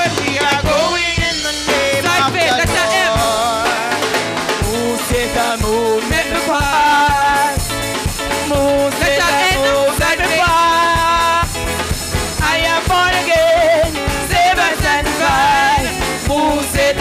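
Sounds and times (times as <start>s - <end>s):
gospel choir singing: 0.0s - 11.6s, 12.4s - 17.0s
steady drum beat: 0.0s - 17.0s.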